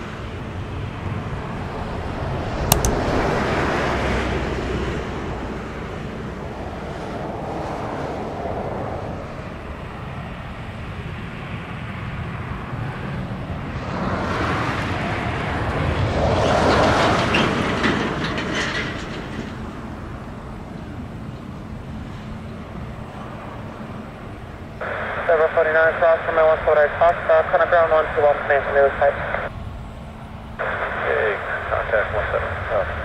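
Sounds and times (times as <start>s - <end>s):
jet airliner rumble: 0.0s - 33.0s.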